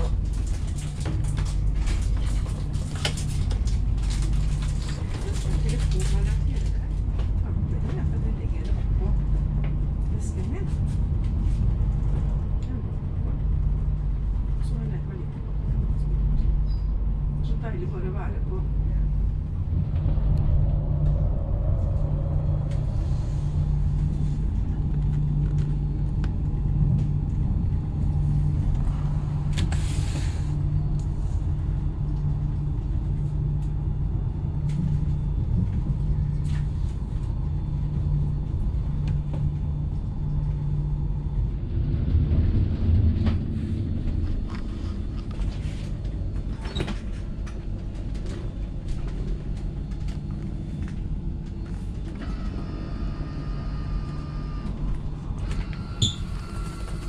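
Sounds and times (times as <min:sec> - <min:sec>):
train cabin rumble: 0:00.0 - 0:57.0.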